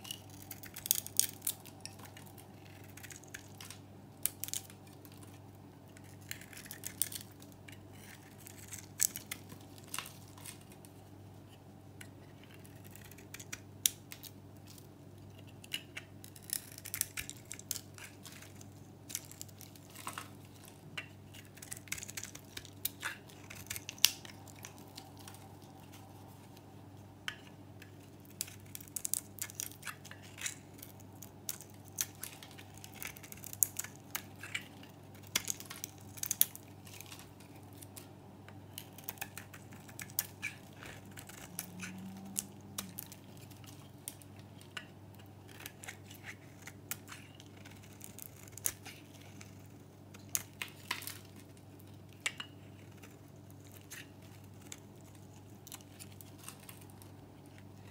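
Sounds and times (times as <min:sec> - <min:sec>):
knife shaving soap: 0:00.0 - 0:10.9, 0:11.5 - 0:14.4, 0:15.3 - 0:26.1, 0:27.3 - 0:37.7, 0:38.8 - 0:51.5, 0:52.2 - 0:57.9.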